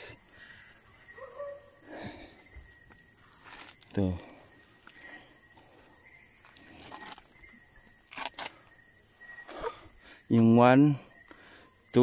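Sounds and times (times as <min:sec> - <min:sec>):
crickets and insects chirring: 0:00.0 - 0:12.0.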